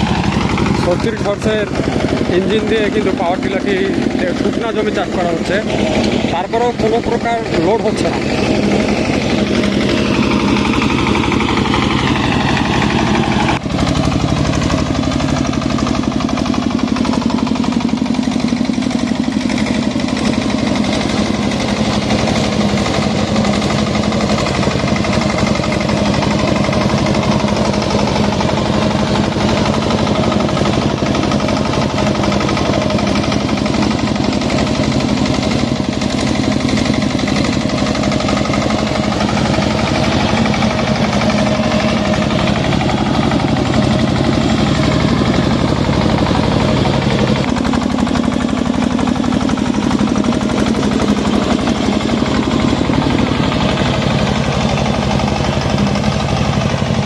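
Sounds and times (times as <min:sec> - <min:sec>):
diesel tiller engine thumping: 0:00.0 - 0:57.0
rotary tiller churning soil: 0:00.0 - 0:57.0.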